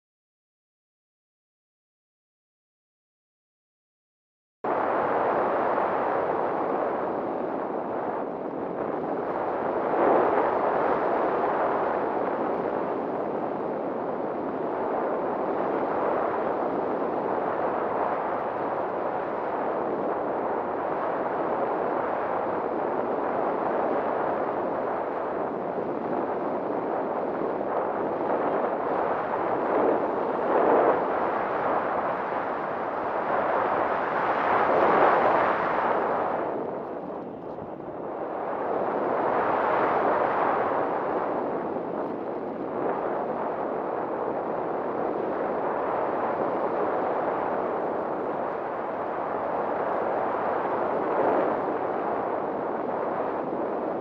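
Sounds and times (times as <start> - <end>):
wind rushing over microphone: 4.6 - 54.0.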